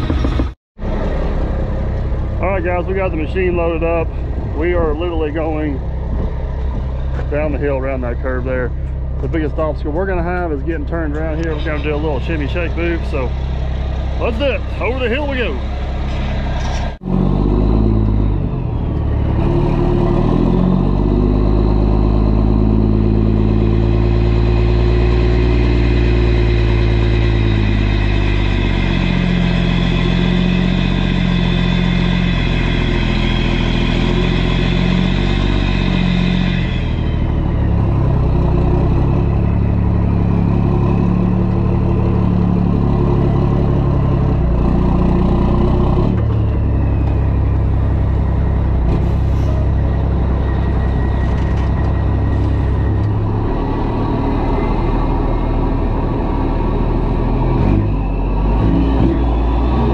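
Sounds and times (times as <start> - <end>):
high whine: 0.0 - 59.9
truck engine running under load: 0.0 - 59.9.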